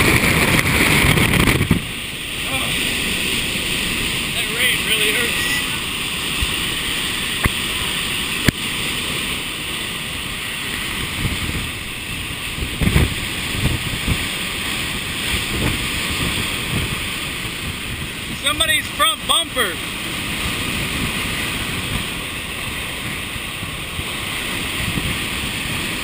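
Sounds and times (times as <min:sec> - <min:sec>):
driving rain: 0:00.0 - 0:26.0
gusts buffeting microphone: 0:00.0 - 0:26.0
strong wind: 0:00.0 - 0:26.0.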